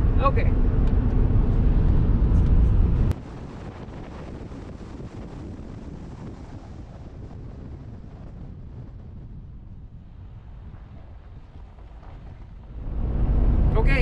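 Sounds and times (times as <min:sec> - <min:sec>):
road noise rumble: 0:00.0 - 0:14.0
steady rushing noise: 0:00.0 - 0:14.0
wind buffeting microphone: 0:00.0 - 0:14.0.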